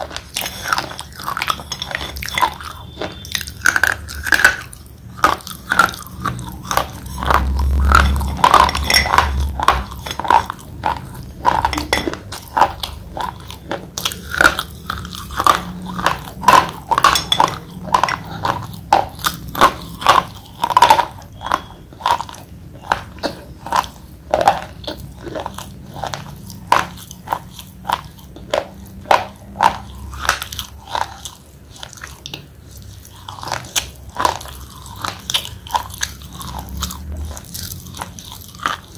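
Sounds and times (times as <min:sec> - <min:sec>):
slate pencils crunching when chewed: 0:00.0 - 0:38.9.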